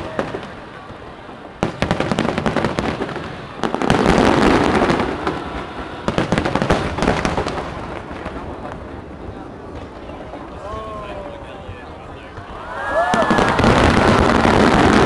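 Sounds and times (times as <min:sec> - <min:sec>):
fireworks cracks and bangs: 0:00.0 - 0:15.0.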